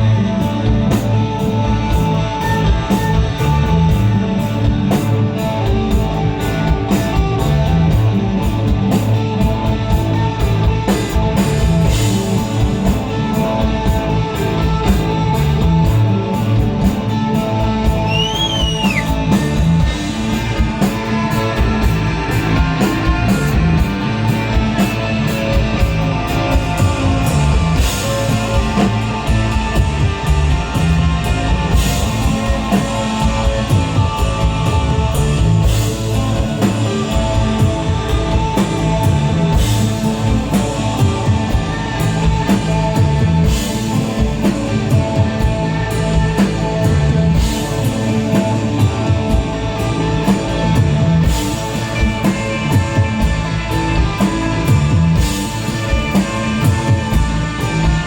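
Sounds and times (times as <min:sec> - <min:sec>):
bass guitar: 0:00.0 - 0:58.0
drum kit steady beat: 0:00.0 - 0:58.0
electric guitar: 0:00.0 - 0:58.0
rock band playing: 0:00.0 - 0:58.0.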